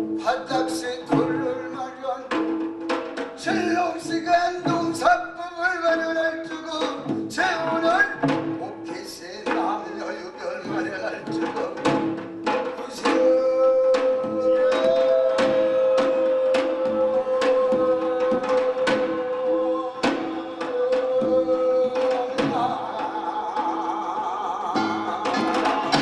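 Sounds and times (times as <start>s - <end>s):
drum strikes: 0.0s - 26.0s.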